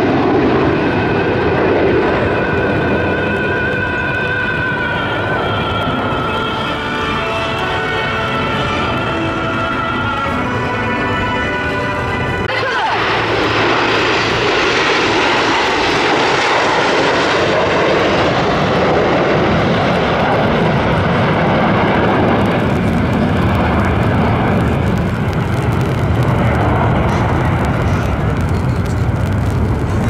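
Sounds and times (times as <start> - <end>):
jet aircraft passing: 0.0 - 30.0.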